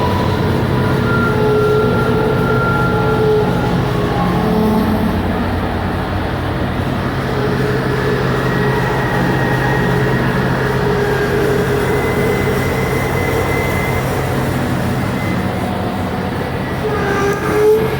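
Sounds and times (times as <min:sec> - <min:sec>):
drilling rig machinery humming: 0:00.0 - 0:17.9.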